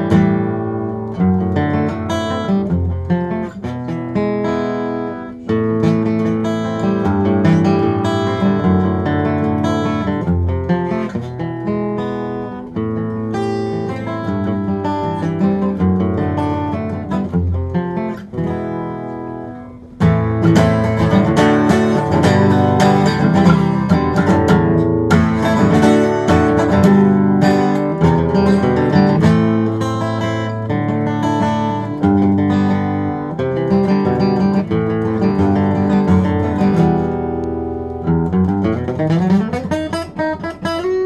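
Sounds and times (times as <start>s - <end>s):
acoustic guitar playing: 0.0s - 41.0s.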